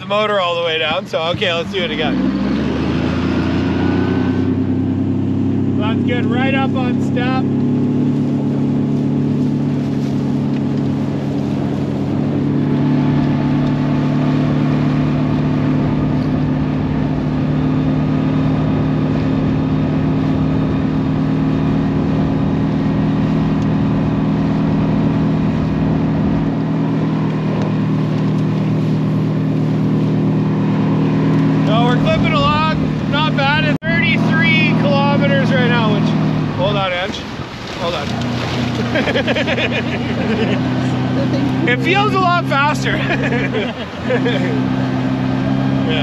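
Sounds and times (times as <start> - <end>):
outboard motor running at high throttle: 0.0 - 46.0.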